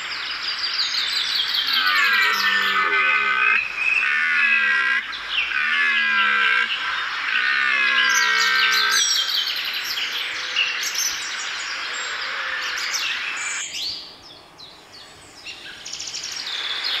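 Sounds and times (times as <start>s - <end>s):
small birds chirping and singing: 0.0s - 4.1s, 5.0s - 17.0s.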